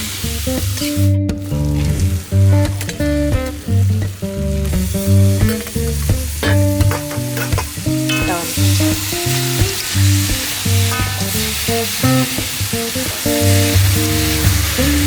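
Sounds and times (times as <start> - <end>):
food sizzling in a pan: 0.0 - 15.0
background music: 0.1 - 15.0.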